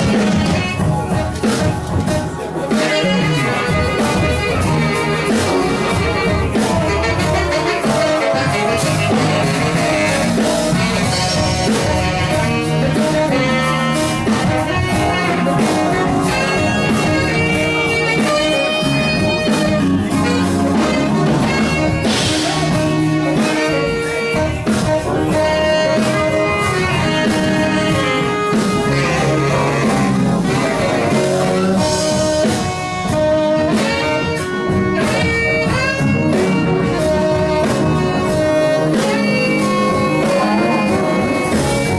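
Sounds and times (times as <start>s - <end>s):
bass: 0.0s - 41.9s
drums: 0.0s - 41.9s
keyboards: 0.0s - 41.9s
soloing lead instrument: 0.0s - 41.9s.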